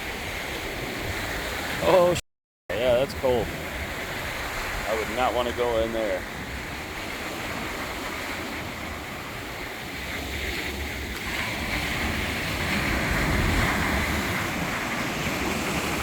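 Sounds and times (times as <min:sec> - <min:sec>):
waves washing on beach: 0:00.0 - 0:16.0
wind buffeting microphone: 0:02.8 - 0:16.0.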